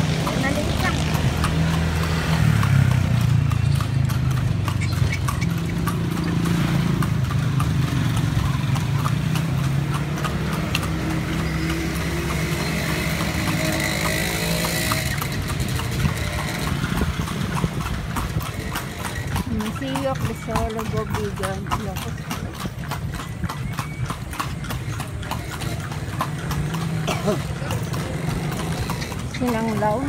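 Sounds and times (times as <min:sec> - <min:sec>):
carriage rumbling: 0:00.0 - 0:30.0
horse hooves clip-clopping: 0:00.0 - 0:30.0.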